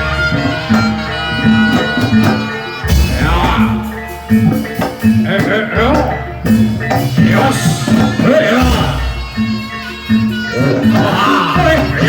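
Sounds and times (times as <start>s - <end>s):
drums and pitched percussion: 0.0s - 12.0s
voices: 0.0s - 12.0s.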